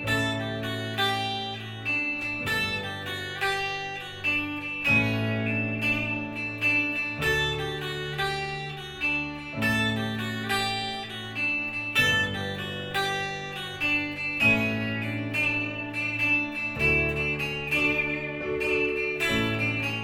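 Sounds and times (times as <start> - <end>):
guitar plucked chords: 0.0 - 20.0.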